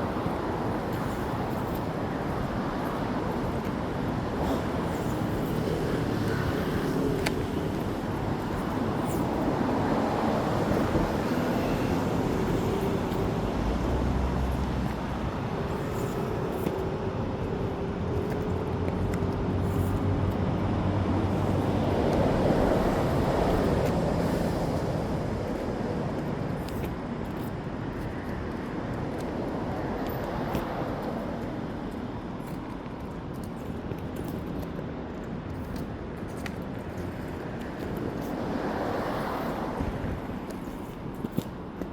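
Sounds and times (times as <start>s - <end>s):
road traffic passing: 0.0s - 41.9s.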